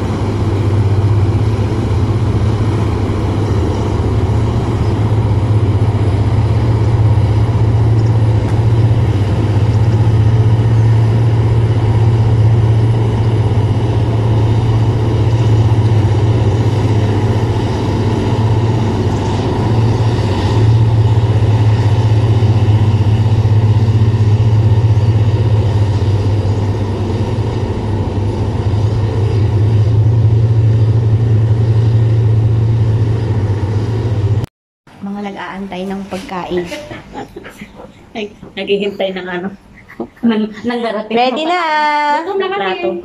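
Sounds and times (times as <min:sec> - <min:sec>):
boat engines droning: 0:00.0 - 0:43.0.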